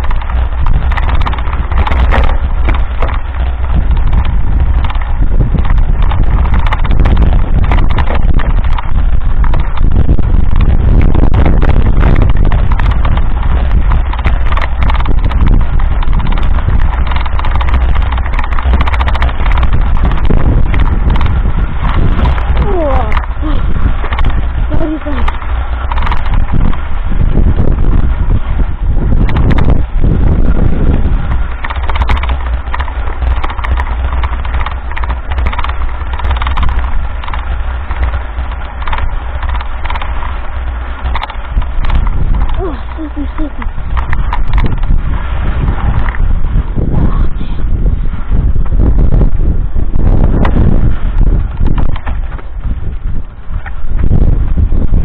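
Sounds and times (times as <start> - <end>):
bike and mount rattling: 0.0 - 55.0
wind buffeting microphone: 0.0 - 55.0.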